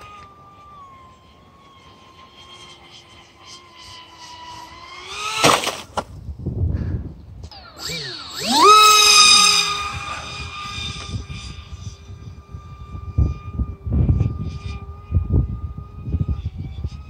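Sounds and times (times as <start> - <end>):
model plane motor whining: 0.0 - 6.4, 7.4 - 17.0.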